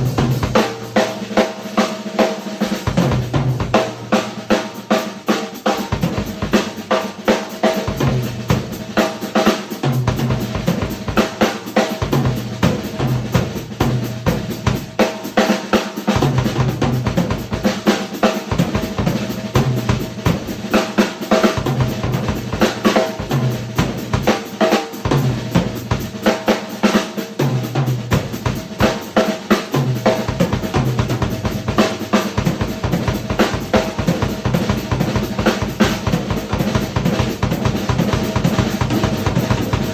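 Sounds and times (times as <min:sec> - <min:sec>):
snare and bass drum strokes: 0:00.0 - 0:39.9.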